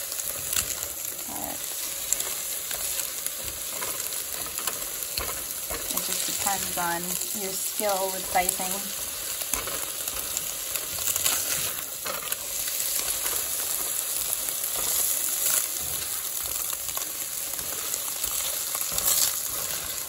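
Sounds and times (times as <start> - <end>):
food sizzling in a skillet: 0.0 - 20.0
spatula scraping a pan: 0.1 - 20.0.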